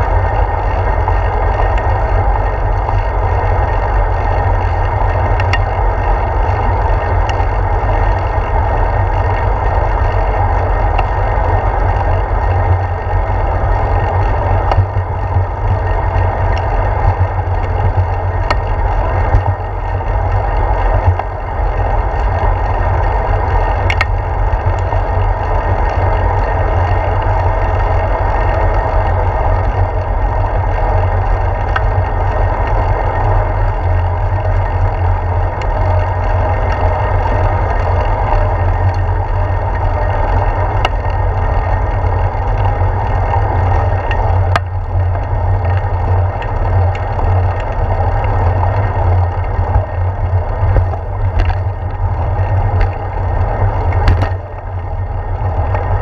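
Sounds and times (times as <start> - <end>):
bicycle road vibration: 0.0 - 56.0
wind rumble: 0.0 - 56.0.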